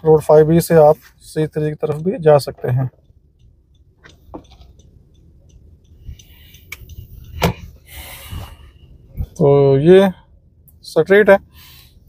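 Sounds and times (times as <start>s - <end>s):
car interior rumble: 0.0s - 12.0s.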